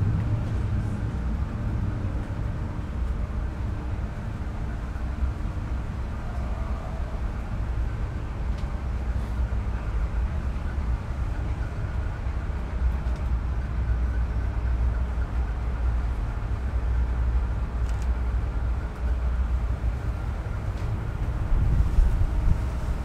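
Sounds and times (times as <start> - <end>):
ship engine drone: 0.0 - 23.0.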